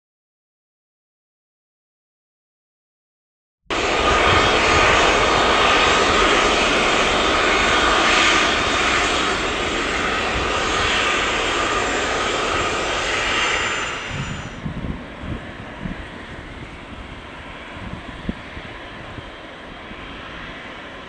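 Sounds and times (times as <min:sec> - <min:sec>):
high jet whine: 0:03.7 - 0:21.0
jet engines roaring: 0:03.7 - 0:21.0.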